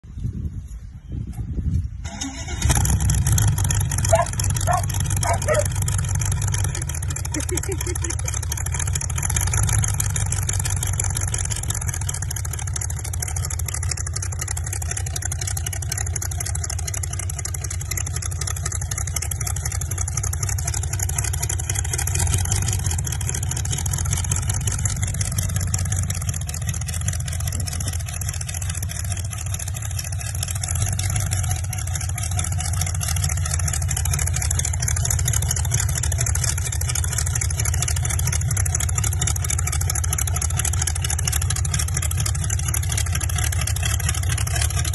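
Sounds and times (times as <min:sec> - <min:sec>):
car engine idling: 0:02.1 - 0:44.9.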